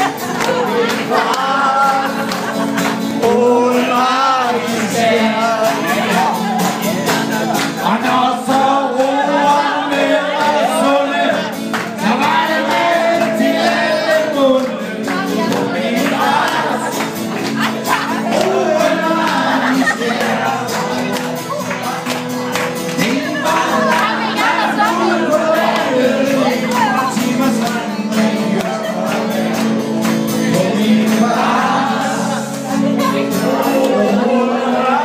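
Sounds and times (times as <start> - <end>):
man singing through pa: 0.0 - 16.9, 17.9 - 21.1, 23.0 - 35.0
acoustic guitar: 0.0 - 35.0.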